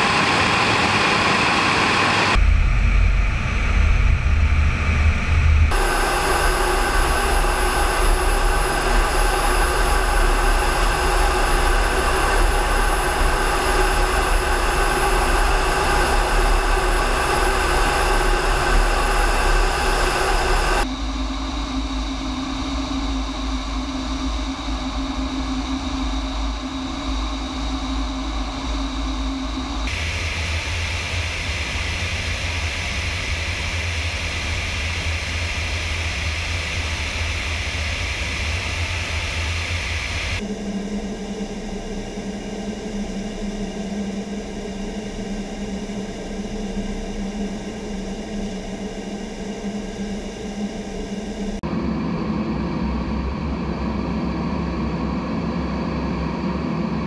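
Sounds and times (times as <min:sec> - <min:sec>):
cockpit hum with low tone: 0:00.0 - 0:57.0
jet engine whine and rushing air: 0:00.0 - 0:57.0
deep rumble with hiss: 0:02.3 - 0:57.0.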